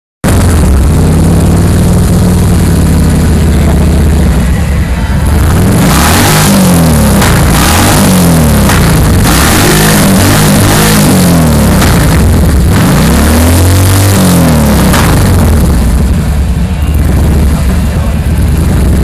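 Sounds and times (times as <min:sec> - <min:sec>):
motorcycle engine revving: 0:00.2 - 0:19.0.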